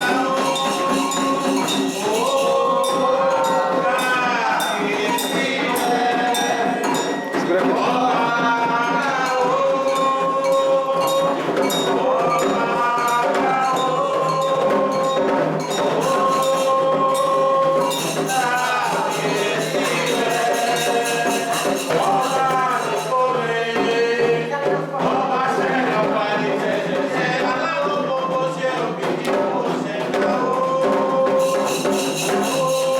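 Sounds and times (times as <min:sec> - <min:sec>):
rattling percussion: 0:00.0 - 0:32.9
voices singing: 0:00.0 - 0:32.9.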